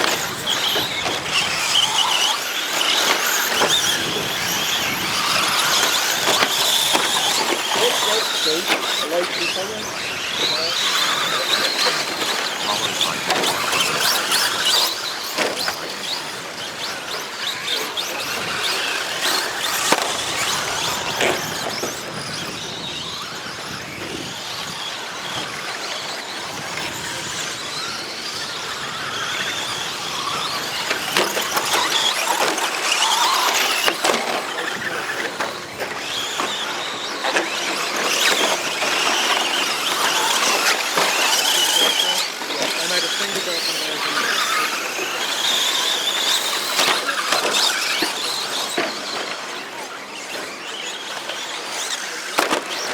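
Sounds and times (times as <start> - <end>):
rc truck motors whining: 0.0 - 52.9.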